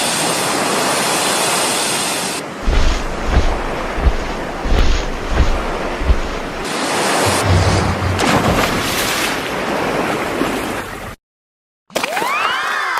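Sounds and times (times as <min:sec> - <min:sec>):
ocean surf washing in: 0:00.0 - 0:10.4.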